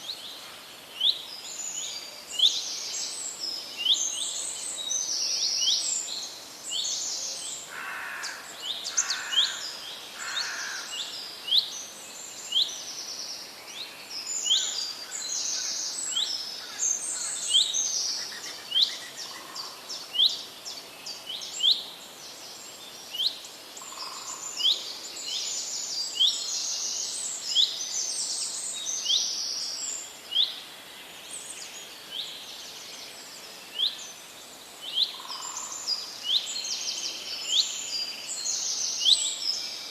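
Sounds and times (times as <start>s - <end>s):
steady outdoor hiss: 0.0s - 39.9s
wild birds chirping: 0.0s - 39.9s.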